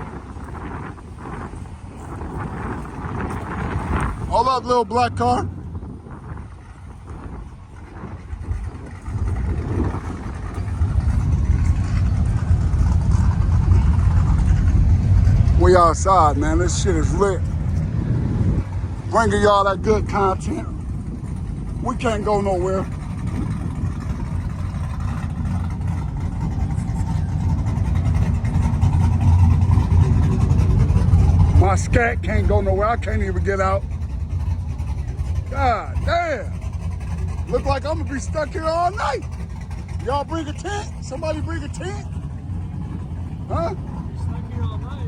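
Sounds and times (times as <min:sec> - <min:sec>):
car engine rumbling: 0:00.0 - 0:45.0.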